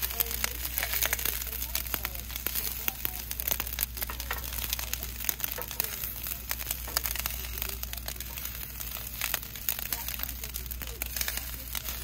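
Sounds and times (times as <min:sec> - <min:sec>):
food sizzling and crackling in pan: 0:00.0 - 0:12.0.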